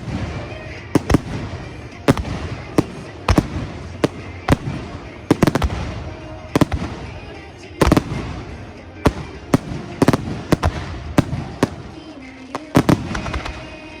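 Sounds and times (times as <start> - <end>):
background pop music: 0.0 - 14.0
fireworks bursting: 0.0 - 14.0.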